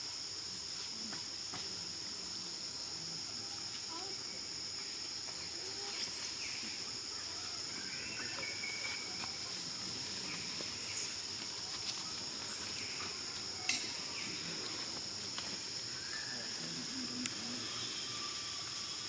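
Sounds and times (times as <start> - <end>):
high-pitched insect drone: 2.0 - 19.0.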